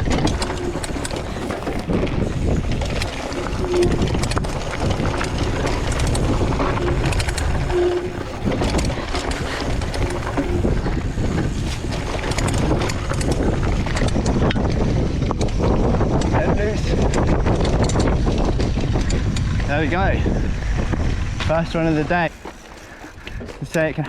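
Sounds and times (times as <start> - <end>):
bike rattling clicks: 0.0 - 19.8, 21.4 - 24.0
tyres rolling over dirt: 0.0 - 24.0
wind buffeting microphone: 0.0 - 24.0.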